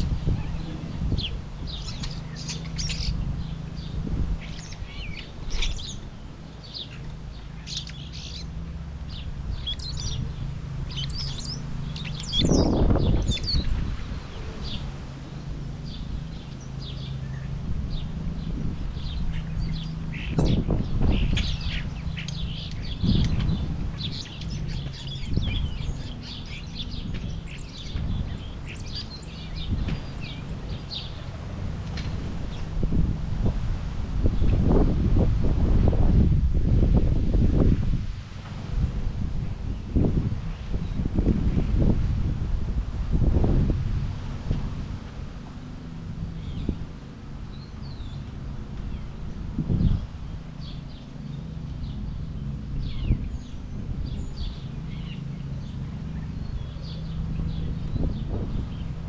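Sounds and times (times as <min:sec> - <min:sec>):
small birds chirping: 0:00.0 - 0:37.8, 0:38.8 - 0:42.4, 0:43.2 - 0:59.0
low steady hum: 0:00.0 - 0:59.0.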